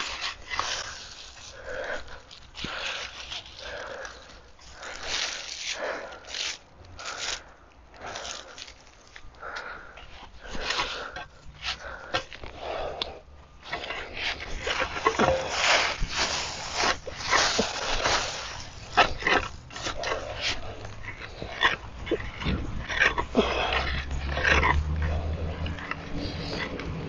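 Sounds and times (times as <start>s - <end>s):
hand cultivator scraping compost: 0.0s - 7.4s, 8.0s - 27.0s.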